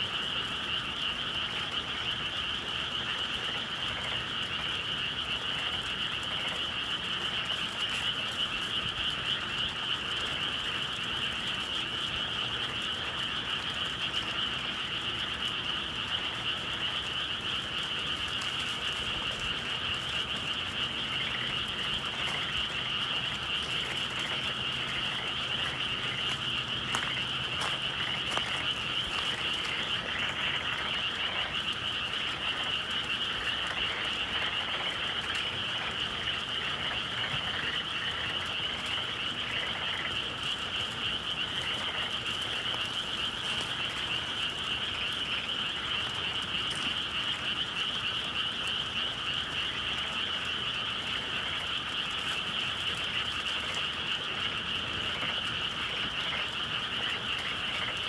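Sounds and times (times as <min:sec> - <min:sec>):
frogs chorus trilling: 0:00.0 - 0:58.0.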